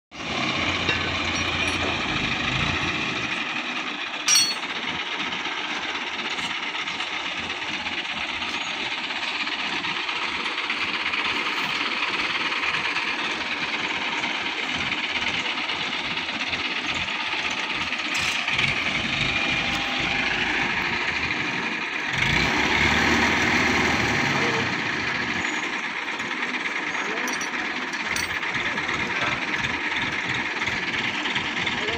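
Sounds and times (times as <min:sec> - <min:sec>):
diesel engine rumbling: 0:00.1 - 0:31.9
rattling machinery: 0:00.2 - 0:31.9.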